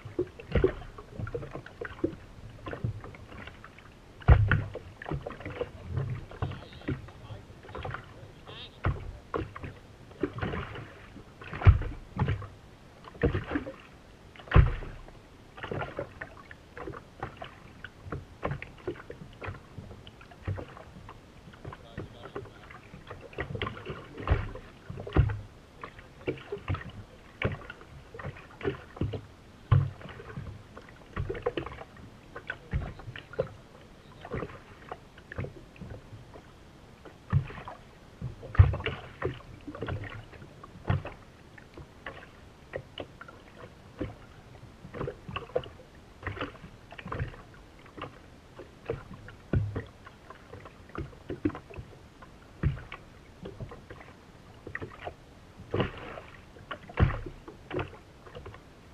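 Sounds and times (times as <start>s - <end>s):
water slapping against boat hull: 0.0s - 58.9s.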